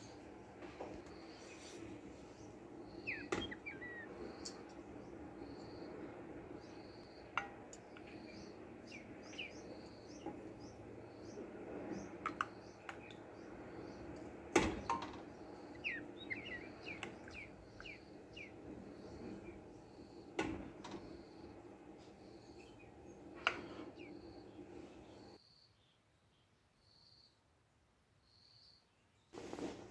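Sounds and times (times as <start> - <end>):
faint steady hum: 0.0 - 27.3
small birds chirping: 0.0 - 27.4.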